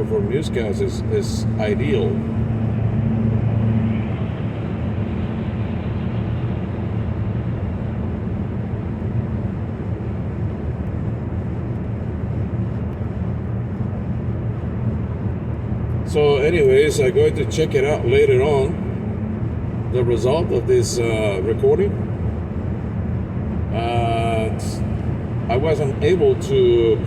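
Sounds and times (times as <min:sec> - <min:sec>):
car engine hum inside cabin: 0:00.0 - 0:27.0.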